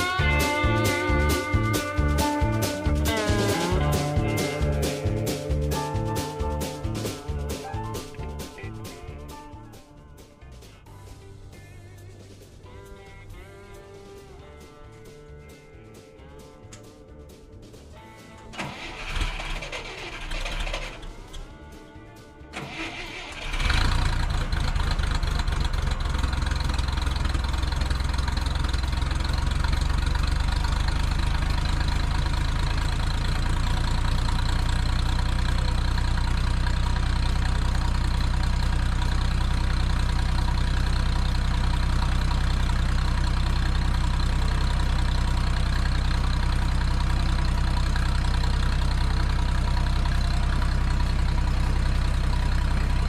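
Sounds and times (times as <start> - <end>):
loader engine idling: 0.0 - 9.8, 17.6 - 53.0.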